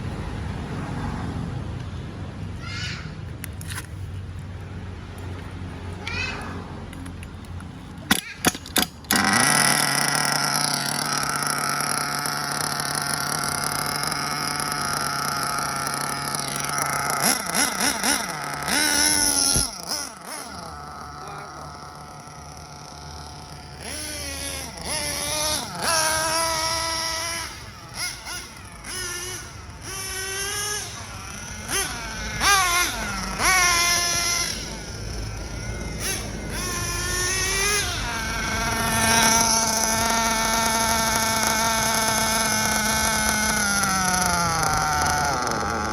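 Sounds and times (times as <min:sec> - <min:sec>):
model car engine revving: 0:05.1 - 0:45.9.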